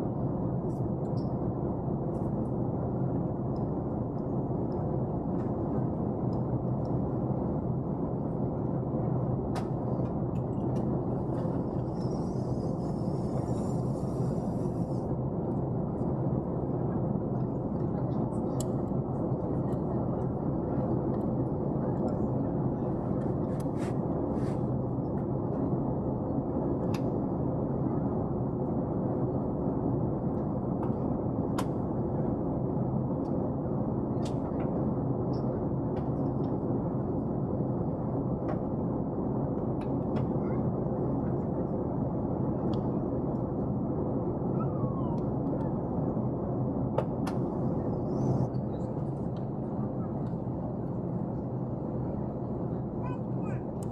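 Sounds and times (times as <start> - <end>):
airplane cabin drone: 0.0 - 53.9.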